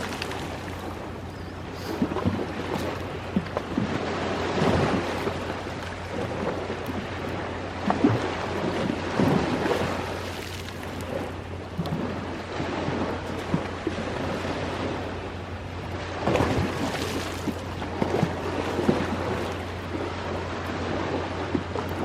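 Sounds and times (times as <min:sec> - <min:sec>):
ocean waves washing ashore: 0:00.0 - 0:22.0.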